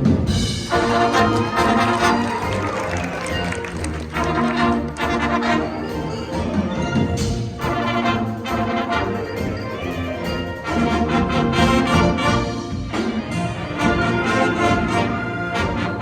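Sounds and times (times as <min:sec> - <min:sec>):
wind band playing: 0:00.0 - 0:16.0
brass playing accented hits: 0:00.3 - 0:16.0.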